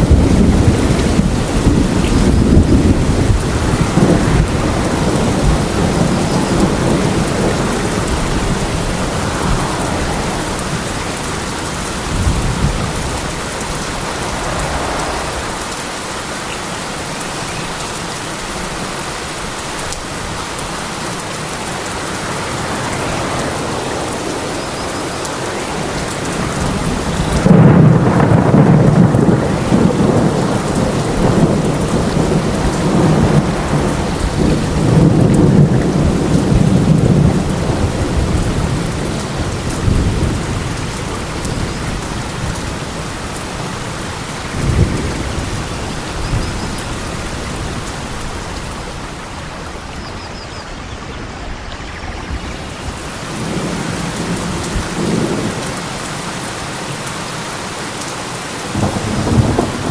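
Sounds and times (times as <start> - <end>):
thunder rumbling: 0.0 - 17.6, 22.1 - 51.3, 58.7 - 59.9
heavy rain: 0.0 - 59.9.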